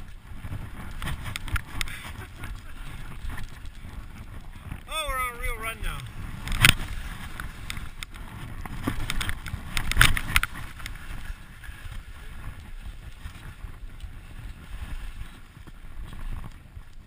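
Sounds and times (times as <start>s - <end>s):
skis sliding over snow: 0.0s - 17.0s
wind buffeting microphone: 0.0s - 17.0s.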